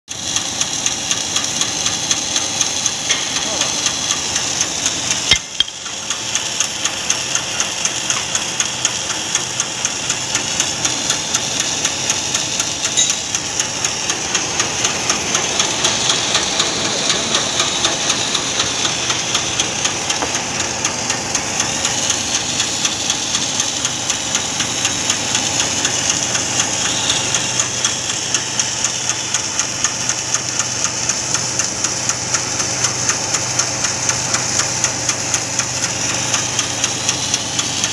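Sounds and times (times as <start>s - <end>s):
machine whine with fast ticking: 0.1s - 37.9s.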